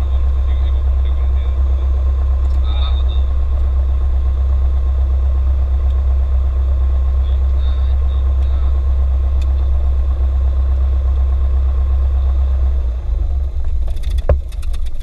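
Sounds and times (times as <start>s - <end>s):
aircraft piston engine idling: 0.0s - 15.0s.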